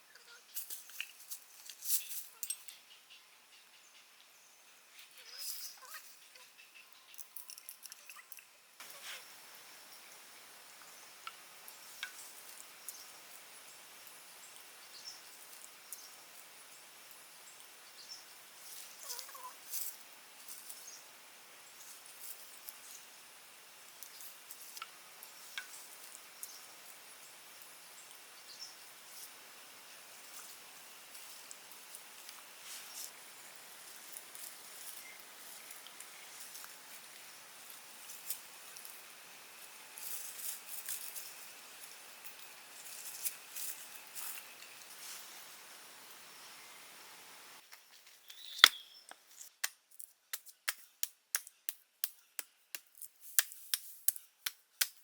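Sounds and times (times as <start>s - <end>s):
steady forest hiss: 0.0s - 55.0s.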